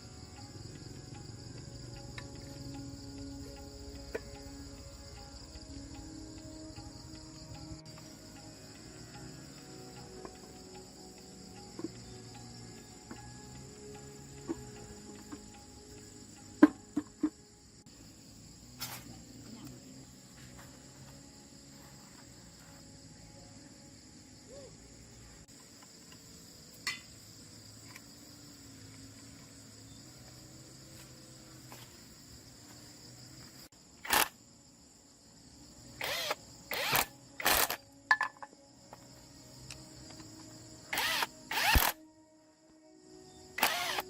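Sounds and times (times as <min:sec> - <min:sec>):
insects buzzing: 0:00.0 - 0:44.0.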